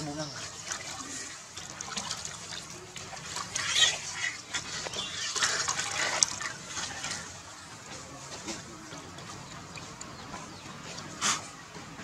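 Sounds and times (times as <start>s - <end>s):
water splashing in a basin: 0.0s - 11.2s.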